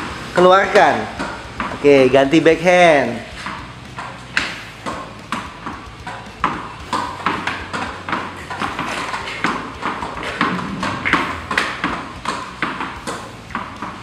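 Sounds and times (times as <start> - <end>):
tennis ball hitting racket and wall: 0.0 - 14.0.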